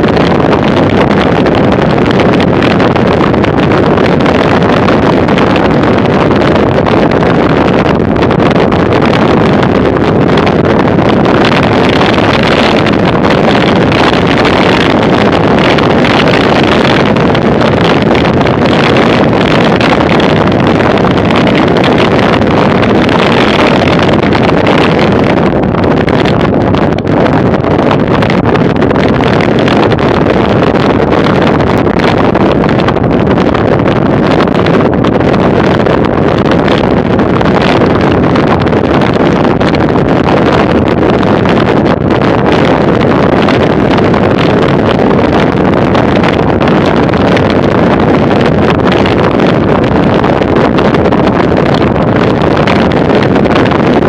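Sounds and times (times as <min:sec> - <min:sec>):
tyre and road rumble: 0:00.0 - 0:54.0
wind rush on microphone: 0:00.0 - 0:54.0.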